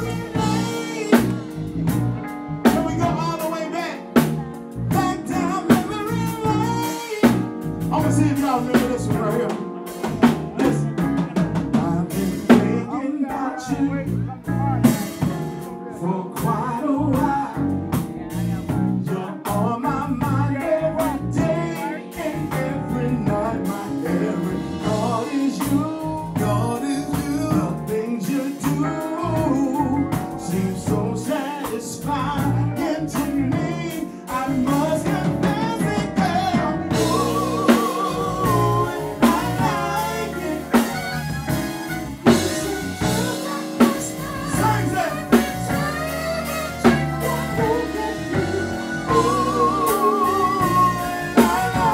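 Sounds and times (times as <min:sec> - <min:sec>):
drum kit: 0:00.0 - 0:12.9, 0:14.0 - 0:15.8, 0:16.4 - 0:51.9
keyboard: 0:00.0 - 0:51.9
man singing: 0:00.0 - 0:51.9.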